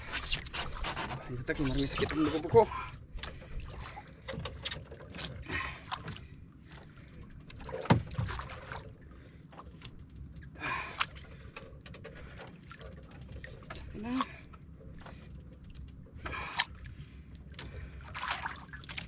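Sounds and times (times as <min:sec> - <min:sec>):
water sloshing against boat hull: 0:00.0 - 0:19.0.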